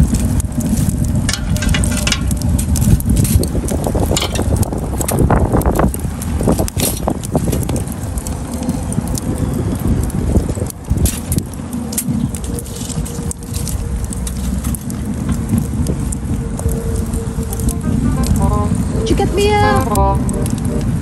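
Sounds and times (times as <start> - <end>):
chestnuts crackling and clicking: 0.0 - 20.8
wind rumble on microphone: 0.0 - 21.0.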